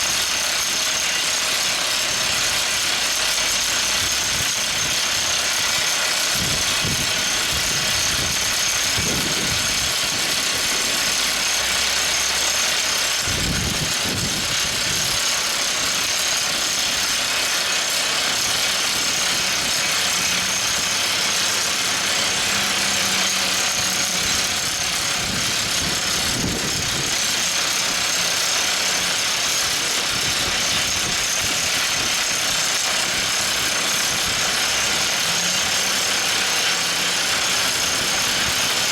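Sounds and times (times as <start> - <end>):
drill rig mechanical din: 0.0 - 38.9.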